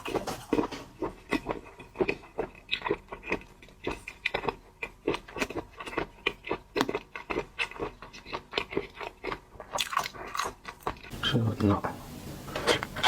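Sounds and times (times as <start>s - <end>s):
person chewing and crunching: 0.0s - 11.4s.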